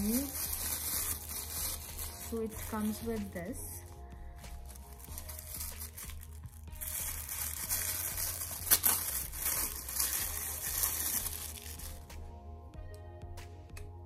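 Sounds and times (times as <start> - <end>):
plastic packaging crinkling: 0.0 - 3.9, 4.6 - 12.1.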